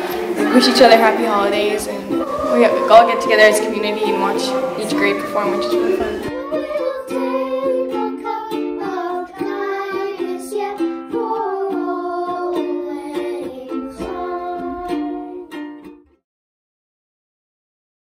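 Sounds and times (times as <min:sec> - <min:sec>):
children singing: 0:00.0 - 0:15.6
strummed string instrument: 0:00.0 - 0:16.2.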